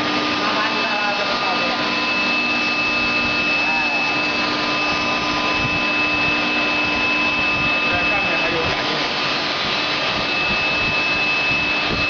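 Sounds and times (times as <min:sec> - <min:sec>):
furnace roaring with humming tones: 0:00.0 - 0:12.0.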